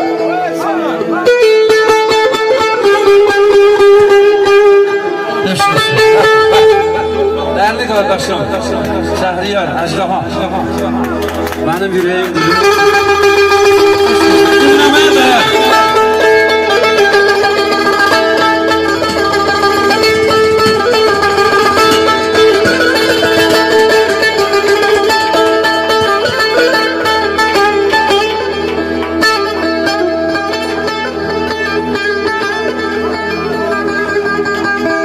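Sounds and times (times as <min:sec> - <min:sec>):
electric lute fast melody: 0:00.0 - 0:35.0.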